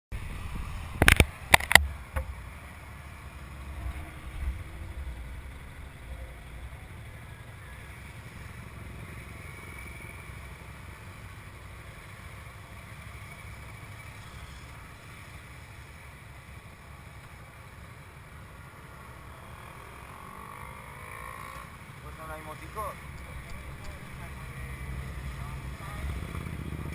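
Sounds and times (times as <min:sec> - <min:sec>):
motorcycle engines rumbling: 0:00.2 - 0:26.9.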